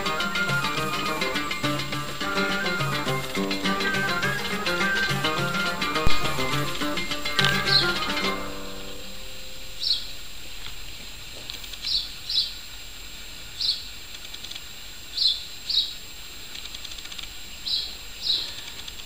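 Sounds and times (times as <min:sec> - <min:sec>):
small bird chirping: 0:00.0 - 0:10.2, 0:11.4 - 0:12.6, 0:13.5 - 0:19.0
faint outdoor background noise: 0:00.0 - 0:19.0.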